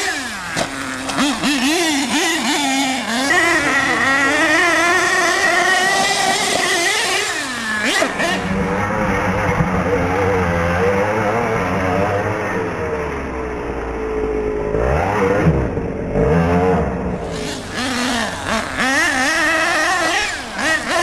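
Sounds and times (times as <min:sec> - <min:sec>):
small two-stroke engine revving: 0:00.0 - 0:21.0.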